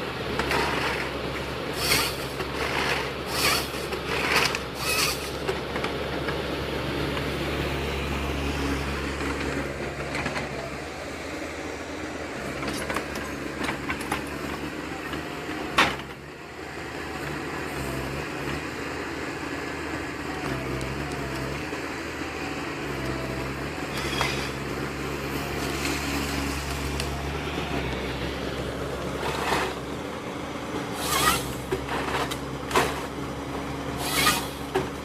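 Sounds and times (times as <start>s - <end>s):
woodworking machinery humming: 0.0s - 35.0s.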